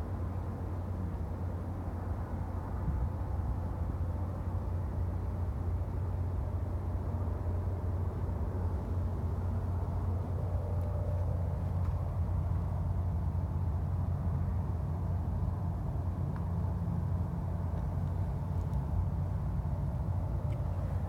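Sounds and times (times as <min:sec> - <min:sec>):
road traffic rumble: 0:00.1 - 0:21.0.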